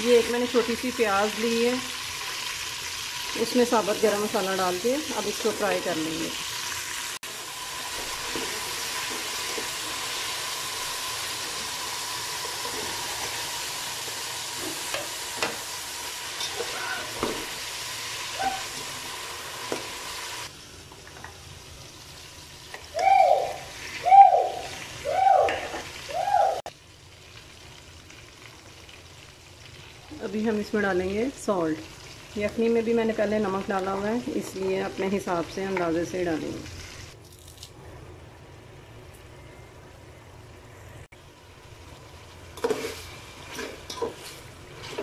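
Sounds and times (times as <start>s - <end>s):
onion frying in oil: 0.0s - 39.2s, 40.0s - 45.0s.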